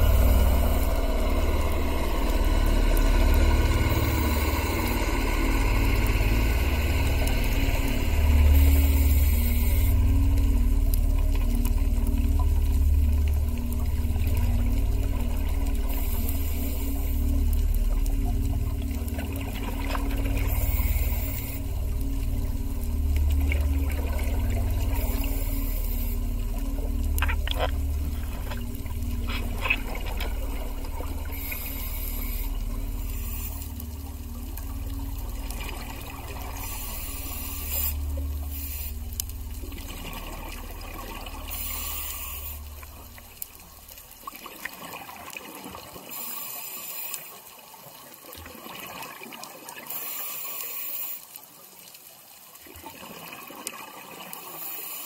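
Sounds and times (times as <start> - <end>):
low underwater rumble: 0.0 - 45.9
regulator bubbles hissing: 0.0 - 55.0.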